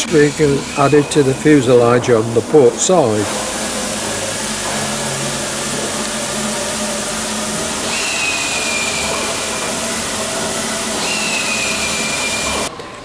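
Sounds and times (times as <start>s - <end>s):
high air tool whine: 0.0s - 12.7s
pneumatic air tools running: 0.0s - 12.7s.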